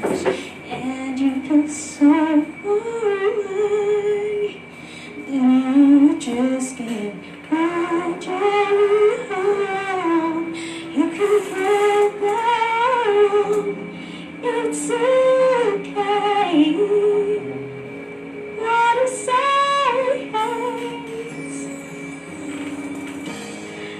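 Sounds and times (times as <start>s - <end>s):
woman singing slow song: 0.0s - 22.2s
soft musical accompaniment: 0.0s - 23.9s.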